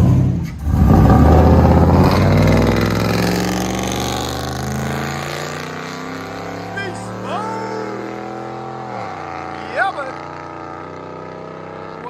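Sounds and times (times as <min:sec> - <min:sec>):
truck engine revving: 0:00.0 - 0:12.0
truck pulling away: 0:00.0 - 0:12.0.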